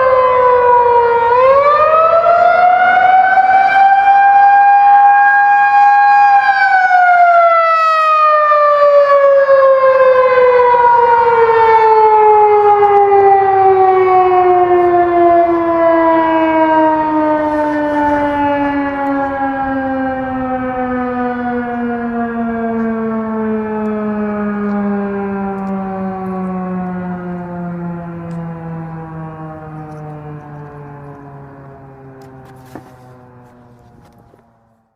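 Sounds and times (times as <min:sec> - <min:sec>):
warning siren winding down: 0:00.0 - 0:34.9.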